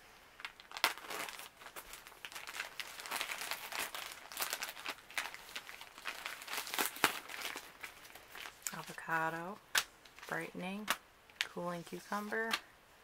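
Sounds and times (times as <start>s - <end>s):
foil and plastic sachets crinkling: 0.4s - 12.6s.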